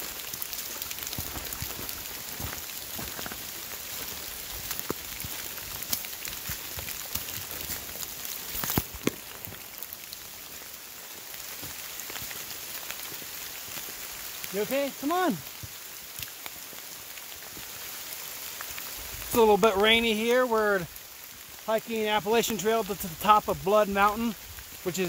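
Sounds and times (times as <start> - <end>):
steady rain in woodland: 0.0 - 25.0.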